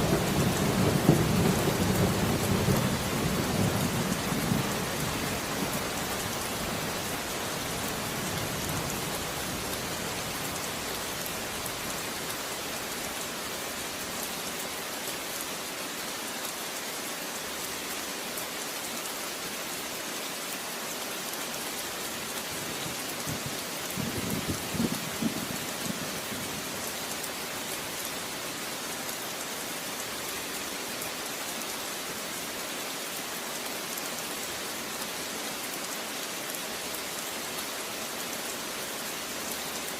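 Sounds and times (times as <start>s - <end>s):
rain falling on surfaces: 0.0s - 39.9s.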